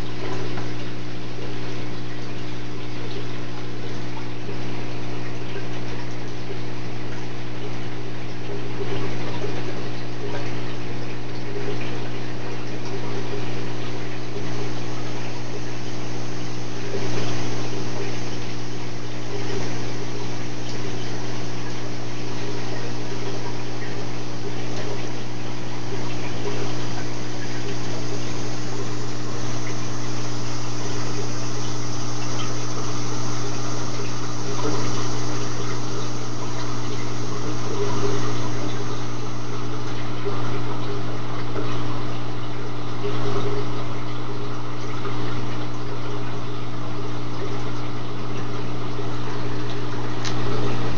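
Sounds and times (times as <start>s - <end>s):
pump humming: 0.0s - 50.9s
water splashing: 7.6s - 50.9s.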